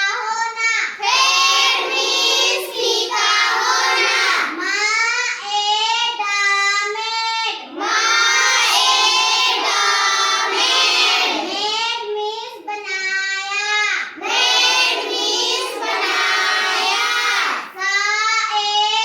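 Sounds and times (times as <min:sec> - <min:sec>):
child singing: 0:00.0 - 0:19.0.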